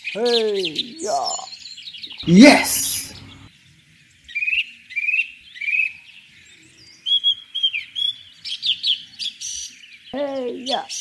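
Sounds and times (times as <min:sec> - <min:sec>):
birds chirping and trilling: 0:00.0 - 0:02.2, 0:03.1 - 0:03.6, 0:04.2 - 0:11.0.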